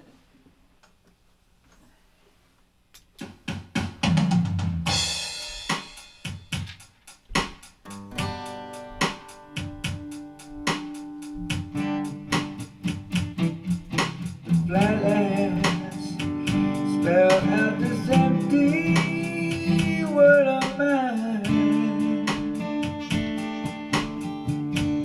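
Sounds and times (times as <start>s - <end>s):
drum beat: 3.2s - 25.0s.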